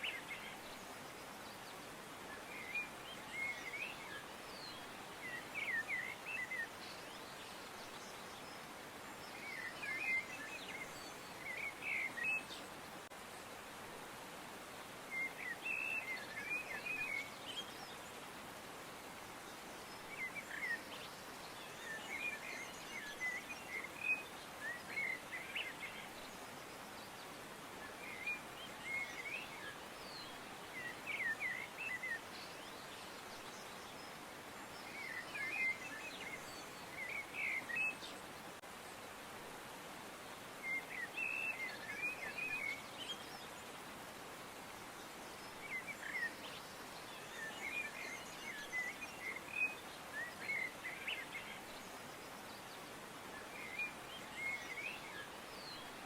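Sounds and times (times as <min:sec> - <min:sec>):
songbirds chirping: 0:00.0 - 0:56.0
steady background hiss: 0:00.0 - 0:56.0.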